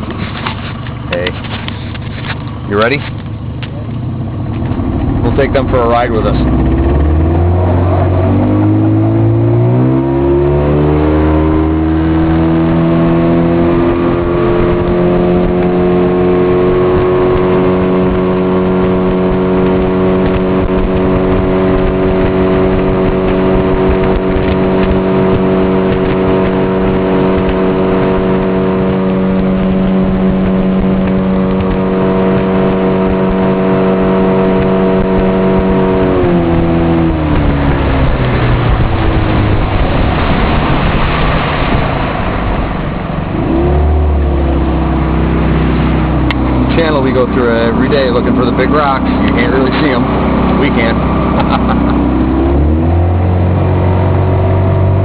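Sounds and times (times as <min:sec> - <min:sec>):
motorboat engine: 0:00.0 - 0:55.0.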